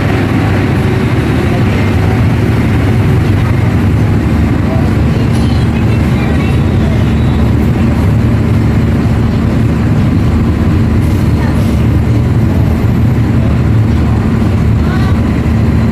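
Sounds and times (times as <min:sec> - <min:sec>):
locomotive engine rumbling: 0:00.0 - 0:15.9.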